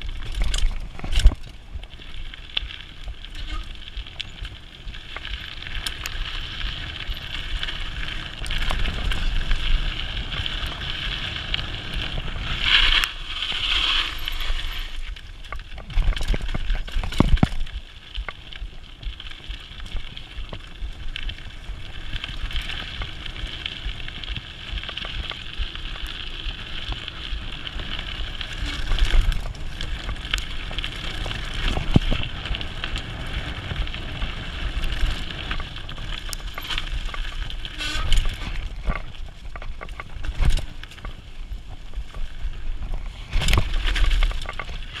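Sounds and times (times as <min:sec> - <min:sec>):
bike knocking and rattling over bumps: 0:00.0 - 0:45.0
wind rumble: 0:00.0 - 0:45.0.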